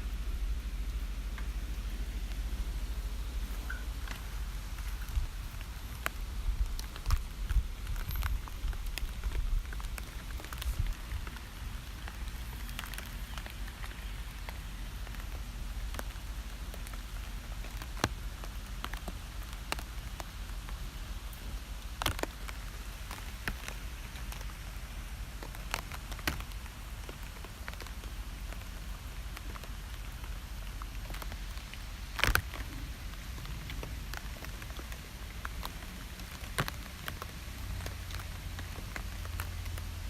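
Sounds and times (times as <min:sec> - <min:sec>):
close raindrops striking: 0:00.0 - 0:40.0
steady rain falling: 0:00.0 - 0:40.0.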